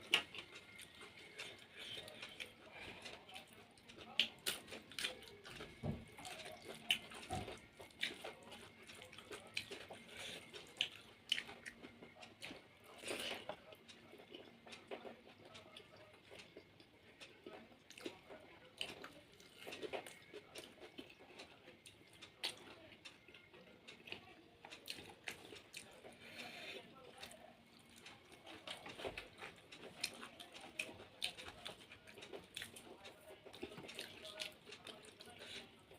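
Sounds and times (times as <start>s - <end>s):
person chewing and lip-smacking: 0.0s - 35.9s.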